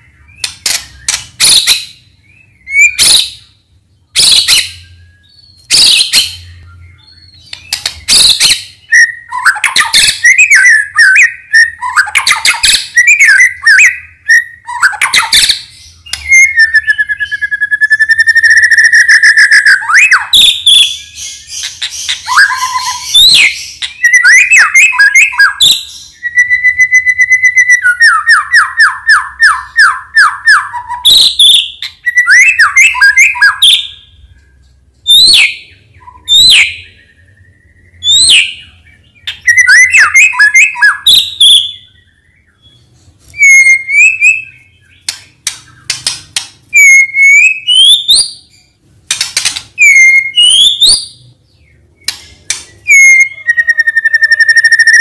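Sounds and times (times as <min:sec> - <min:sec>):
songbird whistling song: 0:00.0 - 0:55.0.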